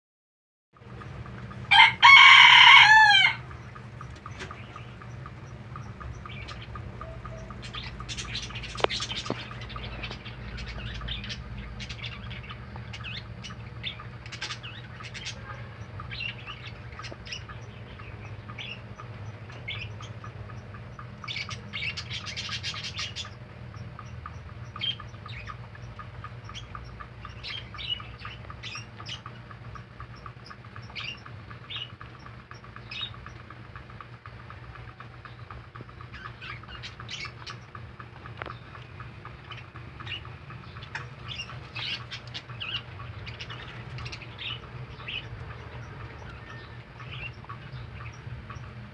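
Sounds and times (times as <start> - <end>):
low steady hum: 0.8 - 48.9
rabbits chewing vegetables: 0.8 - 48.9.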